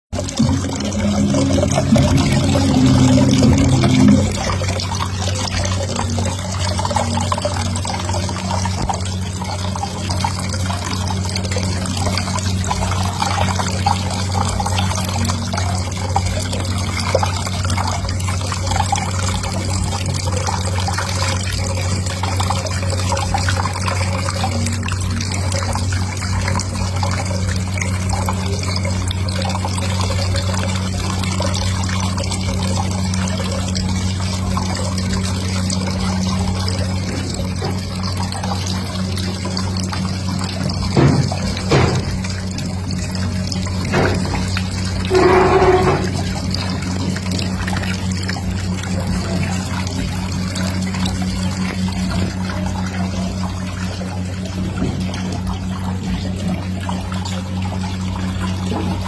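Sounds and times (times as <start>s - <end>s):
waterfall pouring and splashing: 0.2s - 27.7s, 28.3s - 59.0s
low hum: 0.2s - 59.0s.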